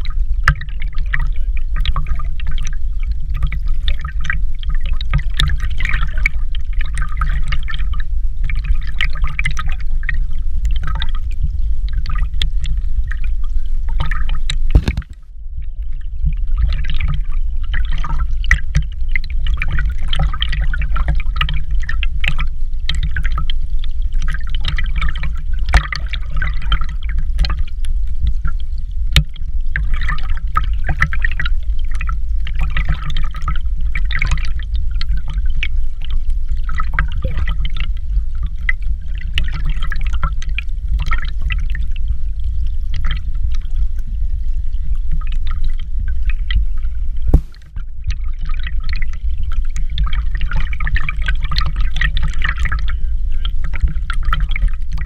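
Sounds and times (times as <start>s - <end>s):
steady low rumble: 0.0s - 55.0s
water pouring and splashing: 0.0s - 55.0s.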